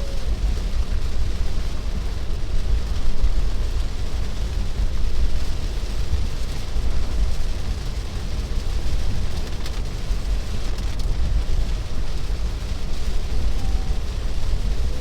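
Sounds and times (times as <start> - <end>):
rain and spray hiss: 0.0 - 15.0
tyres rumbling on wet road: 0.0 - 15.0.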